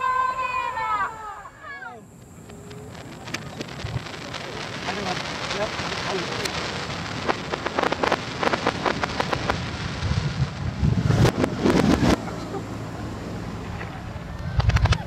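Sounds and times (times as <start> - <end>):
reversed fireworks crackling: 0.0 - 15.0
reversed shell burst rumble: 2.1 - 15.0.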